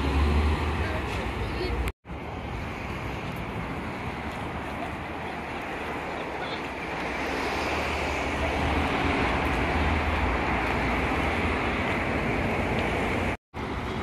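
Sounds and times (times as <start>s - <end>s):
road traffic rush: 0.0s - 14.0s.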